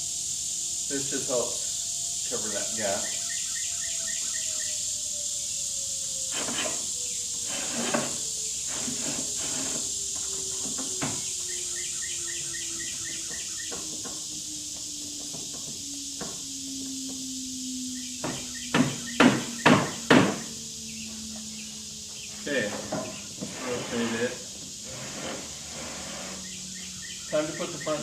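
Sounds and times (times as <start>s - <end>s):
high insect drone: 0.0s - 28.0s
rapid insect chirps: 0.0s - 28.0s.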